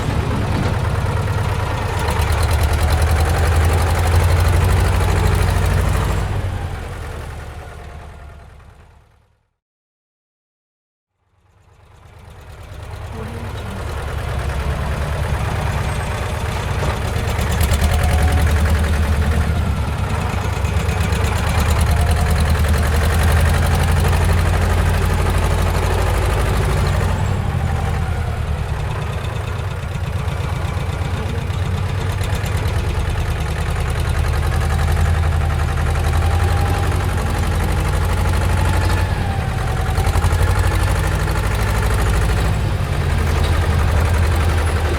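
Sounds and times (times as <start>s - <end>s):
diesel engine rumbling: 0.0s - 9.1s, 12.0s - 44.9s.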